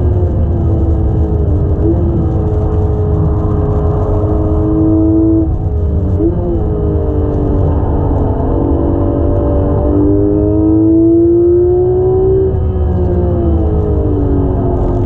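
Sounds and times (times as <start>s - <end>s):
car engine revving under load: 0.0s - 15.0s
road and tyre rumble: 0.0s - 15.0s.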